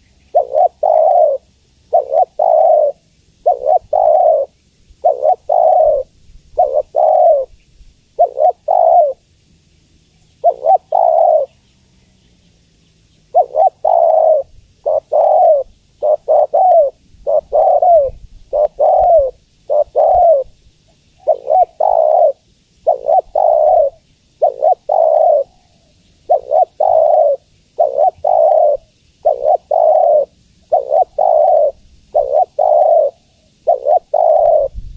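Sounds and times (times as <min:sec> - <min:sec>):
dove cooing: 0:00.0 - 0:07.6, 0:08.2 - 0:09.2, 0:10.4 - 0:11.6, 0:13.3 - 0:20.6, 0:21.2 - 0:34.9.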